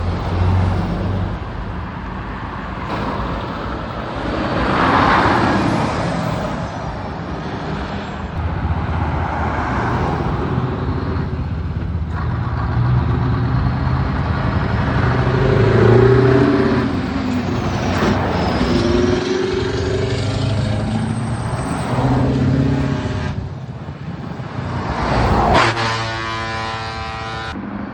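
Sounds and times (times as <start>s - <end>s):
heavy trucks driving past: 0.0s - 27.9s.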